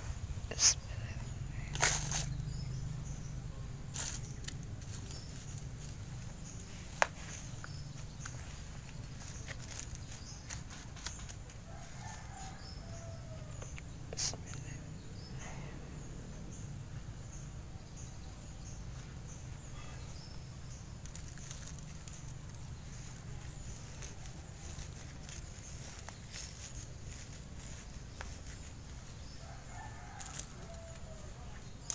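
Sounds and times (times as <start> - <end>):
soil rustling: 0.0 - 14.5, 18.8 - 31.9.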